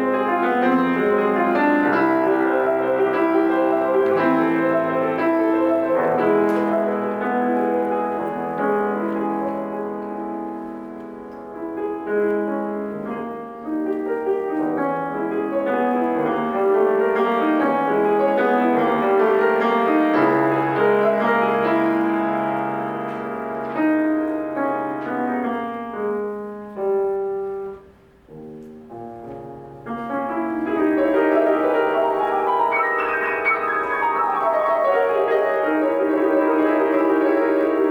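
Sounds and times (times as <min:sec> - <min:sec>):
solo piano classical piece: 0:00.0 - 0:37.9.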